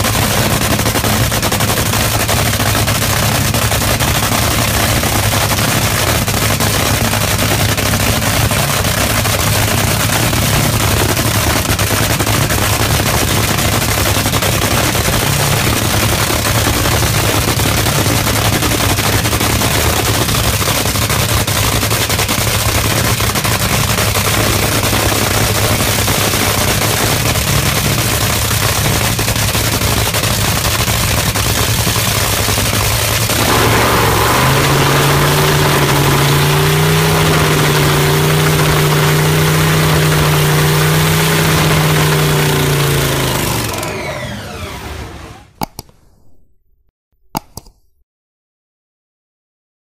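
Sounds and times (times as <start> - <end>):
dragster engine crackling idle: 0.0 - 45.4.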